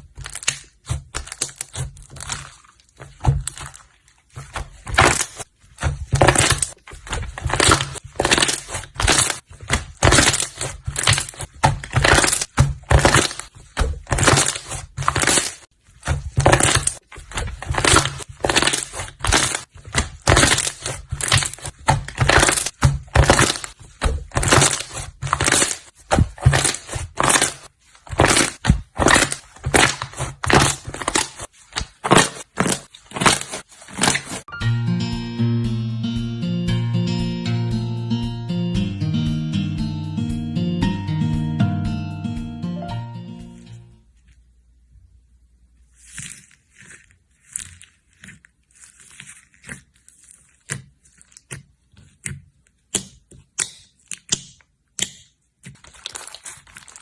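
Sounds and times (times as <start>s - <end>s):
slime squishing and crackling: 0.0s - 34.5s, 45.7s - 57.0s.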